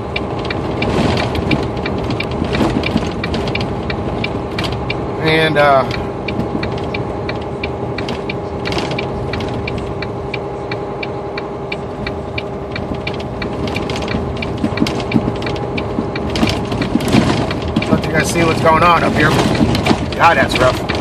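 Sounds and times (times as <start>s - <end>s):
truck engine and road drone: 0.0s - 21.0s
fast clicking: 0.1s - 5.0s, 5.9s - 10.1s, 11.7s - 21.0s.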